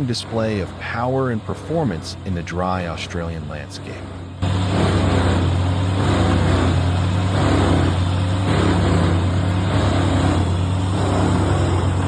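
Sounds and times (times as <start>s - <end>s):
logs grinding in chipper drum: 0.0s - 12.0s
wood chipper engine drone: 0.0s - 12.0s.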